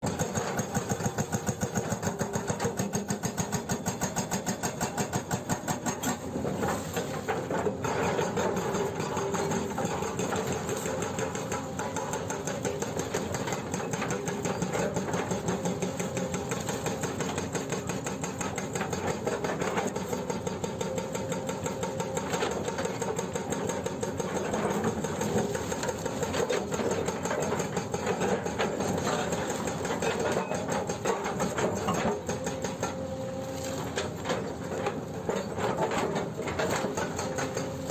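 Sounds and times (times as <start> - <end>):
excavator engine running: 0.0 - 37.9
hydraulic breaker hammering: 0.0 - 37.9.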